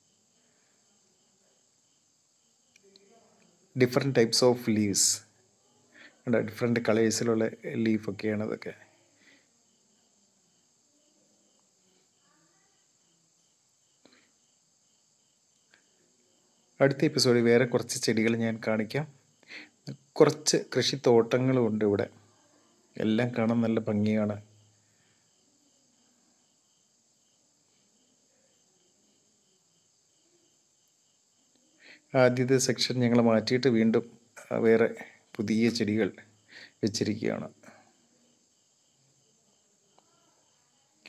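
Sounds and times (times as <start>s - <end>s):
faint insect chirping: 0.0s - 41.0s
steady high hiss: 0.0s - 41.0s.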